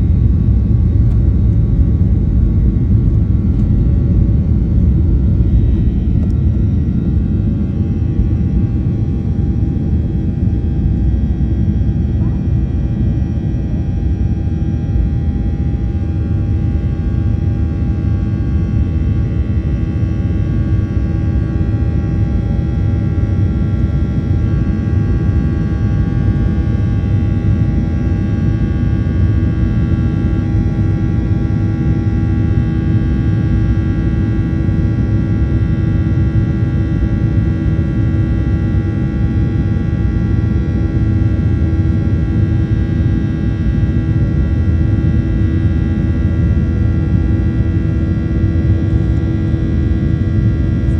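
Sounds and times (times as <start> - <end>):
airplane engines rumbling: 0.0 - 50.9.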